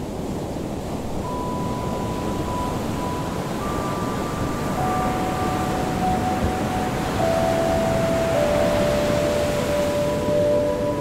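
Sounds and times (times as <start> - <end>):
long held electronic tones: 1.2 - 11.0.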